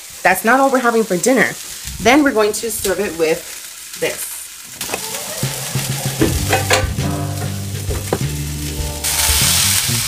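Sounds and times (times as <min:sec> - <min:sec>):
steaks sizzling in a frying pan: 0:00.0 - 0:10.0.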